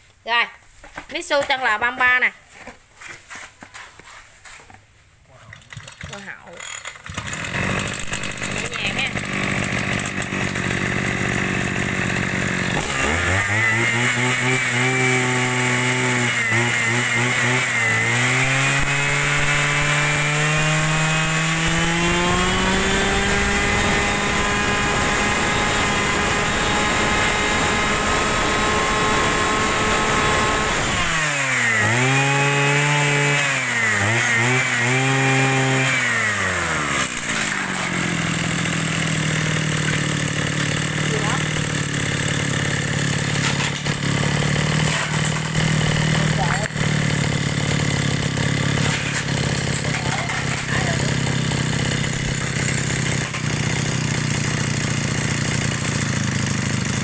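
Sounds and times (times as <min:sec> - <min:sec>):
two-stroke brush cutter engine revving: 0:05.5 - 0:57.0.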